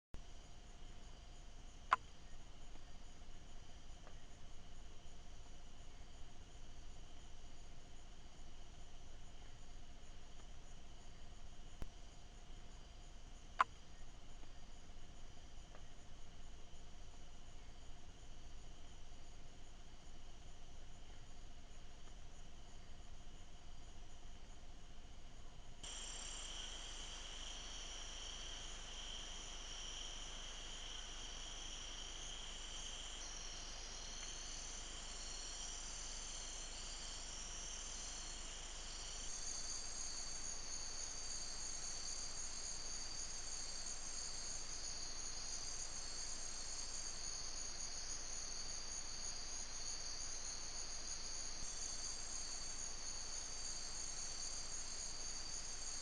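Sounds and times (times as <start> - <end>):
insects trilling: 0.3 - 56.0.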